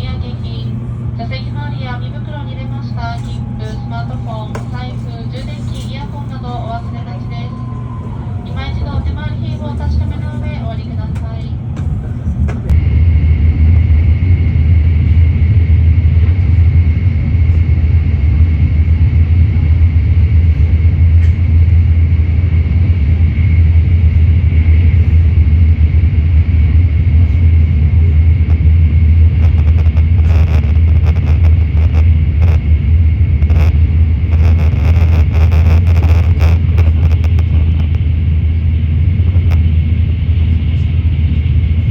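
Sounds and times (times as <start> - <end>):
train rumbling at speed: 0.0 - 41.9.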